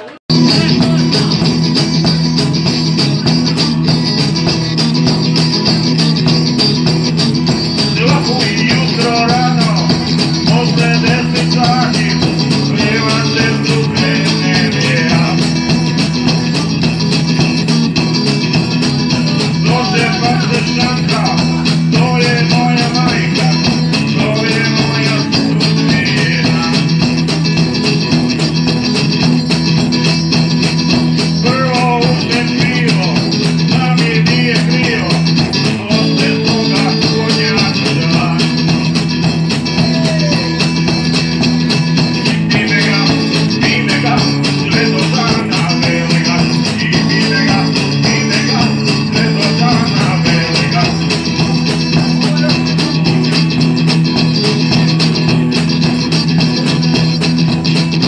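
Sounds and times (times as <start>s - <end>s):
drums: 0.0s - 58.0s
electric guitar: 0.0s - 58.0s.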